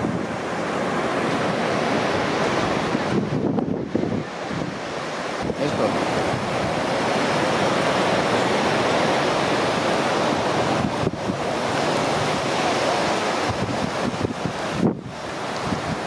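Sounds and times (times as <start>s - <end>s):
sea waves: 0.0s - 16.0s
wind: 0.0s - 16.0s.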